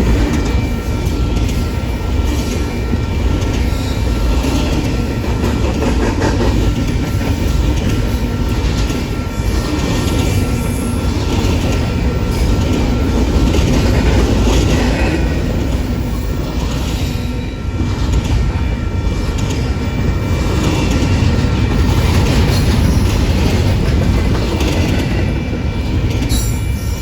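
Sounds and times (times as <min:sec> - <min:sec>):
train wheels rumbling and clacking: 0:00.0 - 0:27.0.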